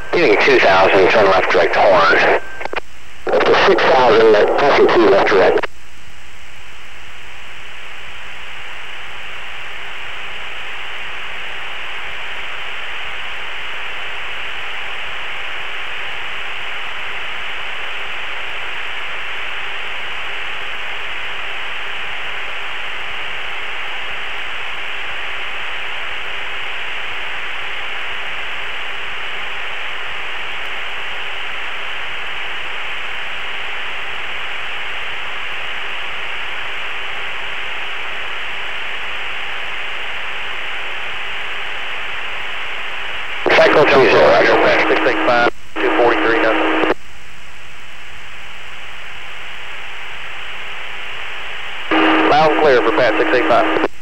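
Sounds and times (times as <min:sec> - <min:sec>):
faint steady hum: 0:00.0 - 0:54.0
radio static hiss: 0:00.0 - 0:54.0.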